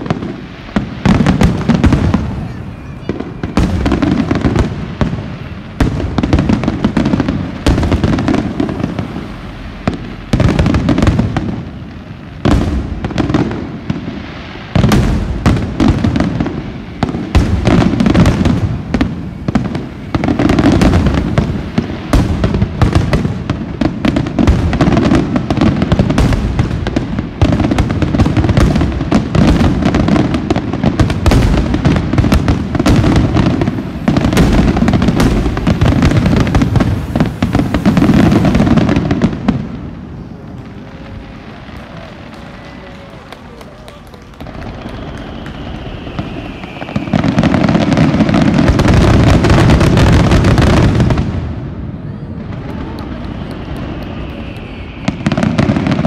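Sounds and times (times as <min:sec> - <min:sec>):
firework shells booming: 0:00.0 - 0:56.0.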